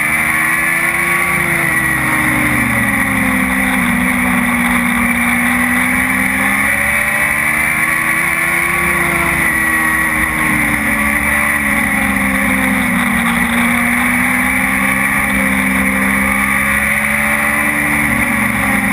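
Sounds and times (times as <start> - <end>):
race car engine running hard: 0.0 - 18.9.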